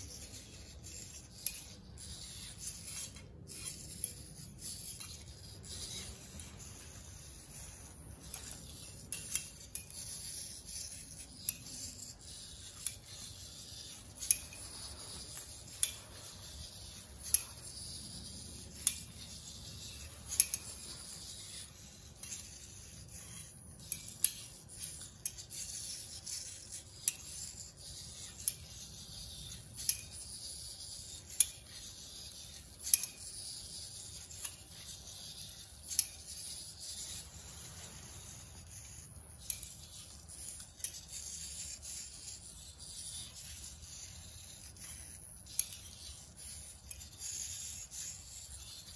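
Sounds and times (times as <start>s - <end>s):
faint servo whirring: 0.0s - 48.9s.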